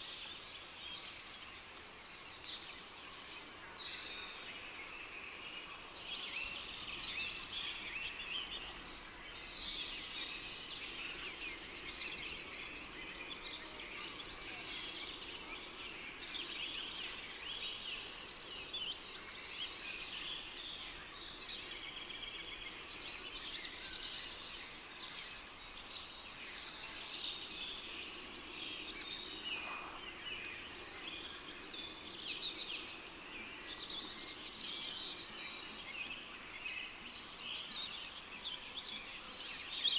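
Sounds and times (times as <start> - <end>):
rainforest ambience: 0.0 - 39.9
cricket chirping: 0.2 - 39.7.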